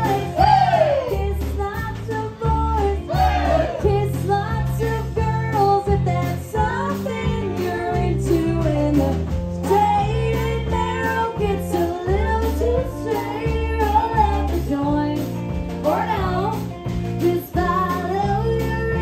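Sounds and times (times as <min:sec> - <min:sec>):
live country band music: 0:00.0 - 0:19.0
woman singing: 0:00.0 - 0:19.0.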